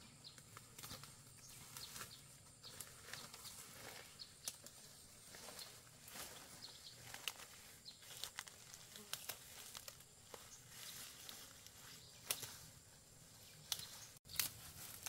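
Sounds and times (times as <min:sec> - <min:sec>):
rustling through ferns: 0:00.3 - 0:15.0.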